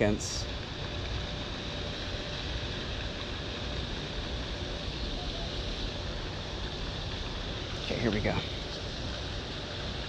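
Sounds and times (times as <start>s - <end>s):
faint high hum: 0.0s - 10.0s.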